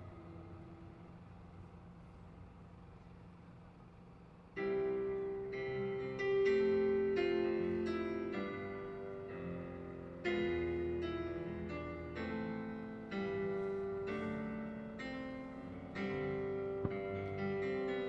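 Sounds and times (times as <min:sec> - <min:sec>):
slow gentle piano music: 0:00.0 - 0:02.3, 0:04.5 - 0:18.0.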